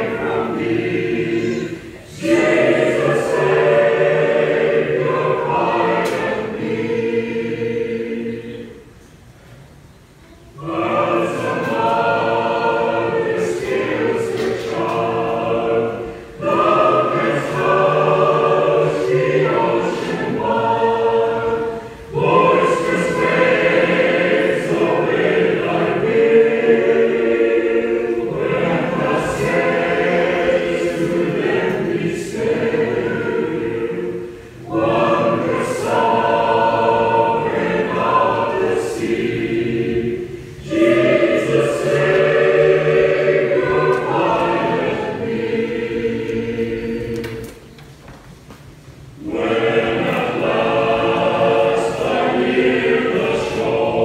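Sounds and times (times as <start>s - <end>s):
choir singing a hymn: 0.0s - 9.2s, 9.8s - 54.0s.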